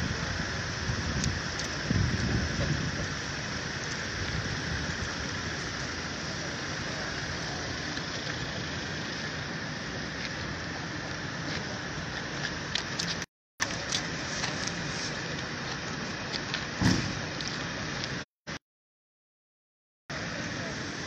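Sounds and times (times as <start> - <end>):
constant hiss: 0.0 - 18.2
vehicle engines rumbling: 0.0 - 18.3, 20.1 - 21.0.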